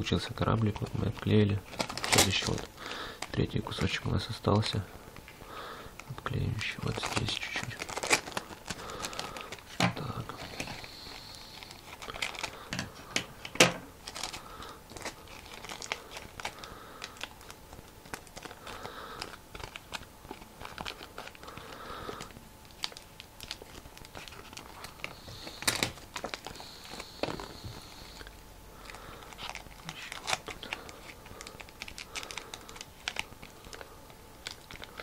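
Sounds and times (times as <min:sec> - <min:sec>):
paper and tape crinkling: 0:00.1 - 0:35.0.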